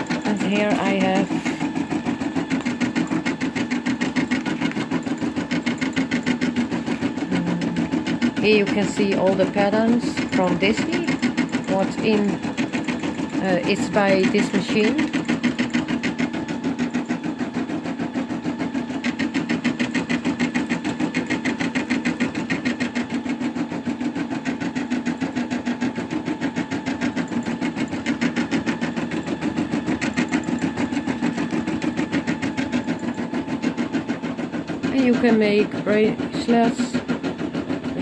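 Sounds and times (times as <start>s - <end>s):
embroidery machine stitching: 0.0s - 38.0s.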